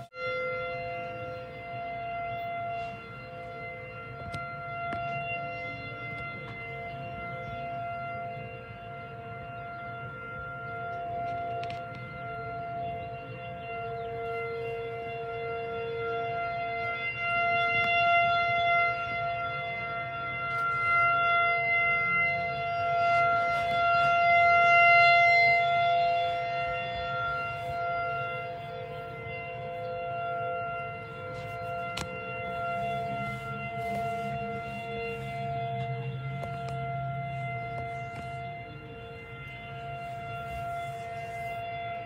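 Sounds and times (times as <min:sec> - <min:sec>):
warning siren wailing: 0:00.0 - 0:42.0.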